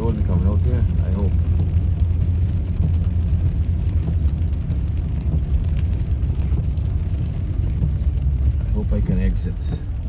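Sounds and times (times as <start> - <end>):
car interior engine and tyre rumble: 0.0 - 10.0.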